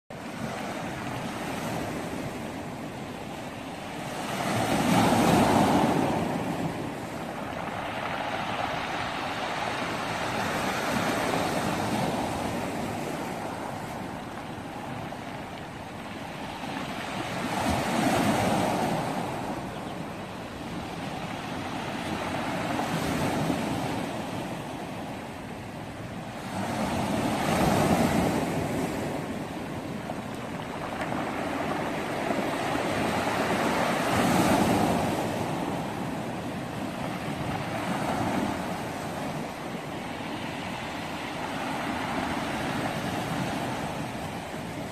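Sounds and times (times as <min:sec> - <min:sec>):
waves washing onto pebble beach: 0:00.2 - 0:44.9.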